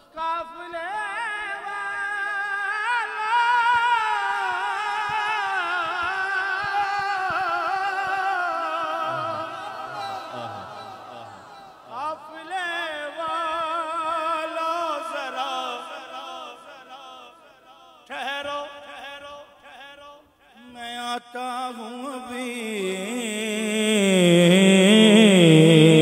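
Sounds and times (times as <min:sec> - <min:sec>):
low male voice singing: 0:00.0 - 0:16.0, 0:20.6 - 0:26.0
men singing unaccompanied: 0:00.2 - 0:17.4, 0:20.7 - 0:26.0.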